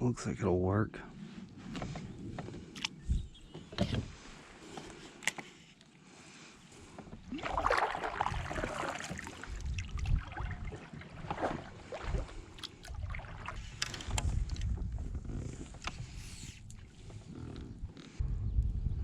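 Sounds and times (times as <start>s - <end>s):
noisy water: 1.1s - 18.2s.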